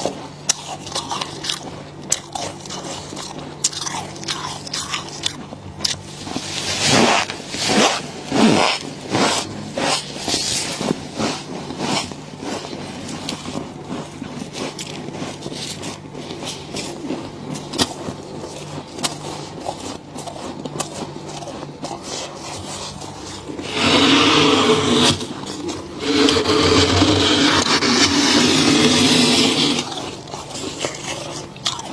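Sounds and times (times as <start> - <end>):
frost being scraped: 6.0 - 31.9.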